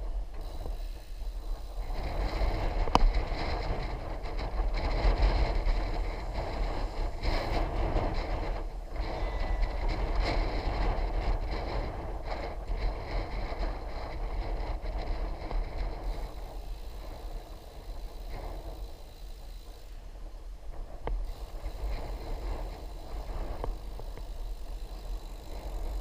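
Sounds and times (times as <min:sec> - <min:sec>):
bicycle rushing noise: 0:00.0 - 0:26.0
wind rumbling on microphone: 0:00.0 - 0:26.0.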